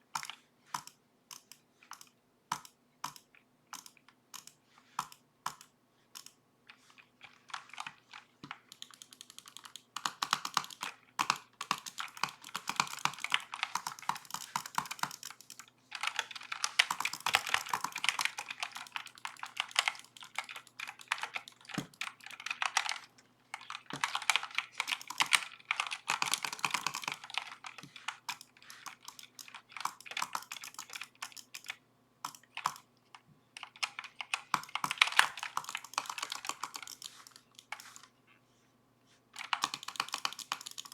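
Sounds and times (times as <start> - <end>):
mechanical keyboard typing: 0.1 - 6.4, 7.2 - 32.9, 33.6 - 38.1, 39.4 - 40.9.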